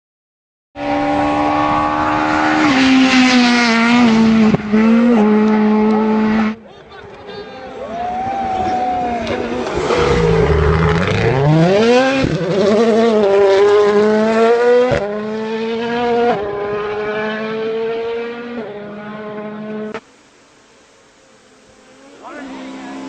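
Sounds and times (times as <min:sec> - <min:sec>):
rally car engine revving: 0:00.8 - 0:06.6, 0:08.6 - 0:20.0, 0:21.7 - 0:23.0.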